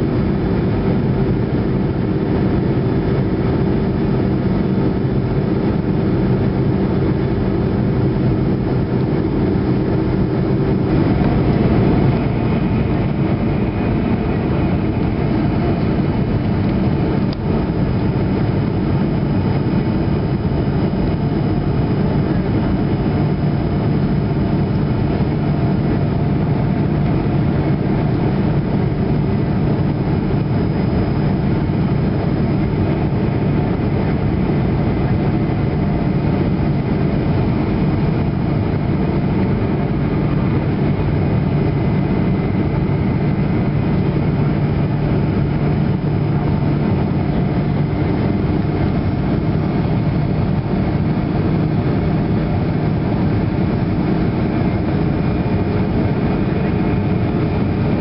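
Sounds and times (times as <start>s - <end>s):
jet engine drone in cabin: 0.0s - 58.0s.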